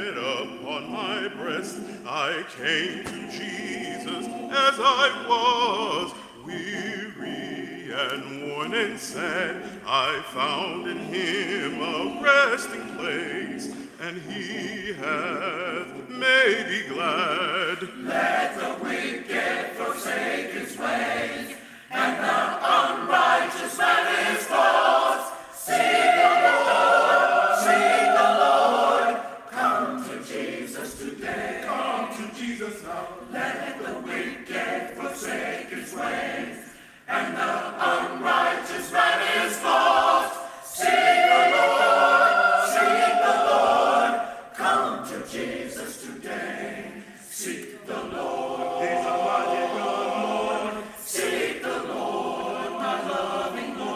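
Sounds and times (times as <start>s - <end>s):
choir singing: 0.0s - 53.9s.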